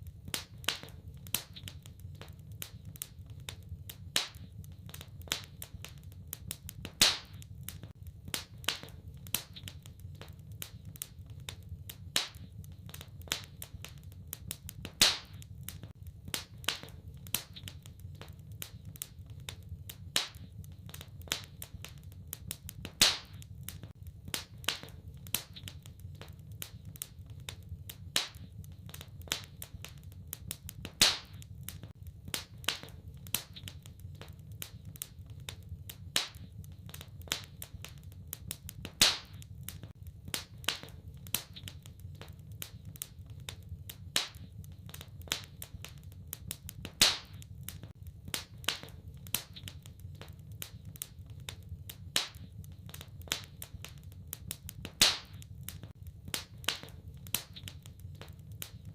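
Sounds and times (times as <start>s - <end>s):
low steady fire rumble: 0.0s - 58.9s
wood fire pops and snaps: 0.0s - 58.9s.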